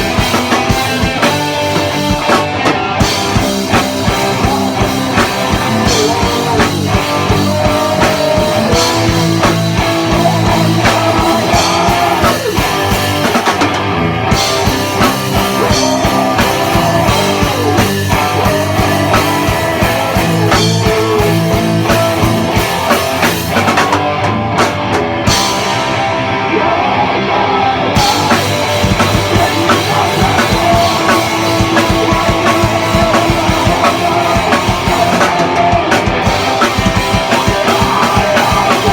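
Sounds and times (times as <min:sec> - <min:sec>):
drum kit: 0:00.0 - 0:26.4, 0:27.9 - 0:38.9
electric guitar: 0:00.0 - 0:38.9
rock band playing: 0:00.0 - 0:38.9.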